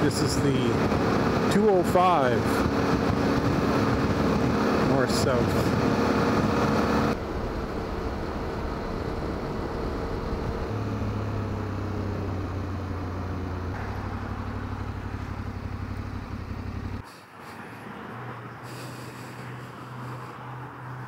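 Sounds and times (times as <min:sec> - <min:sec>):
motorcycle engine cruising: 0:00.0 - 0:17.1
wind and road noise: 0:00.0 - 0:21.0.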